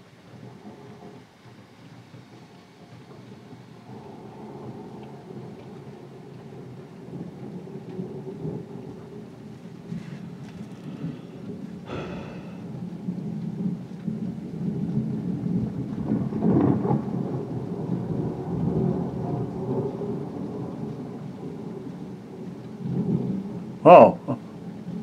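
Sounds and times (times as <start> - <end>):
heavy rain: 0.0 - 25.0
rolling thunder: 0.2 - 23.8.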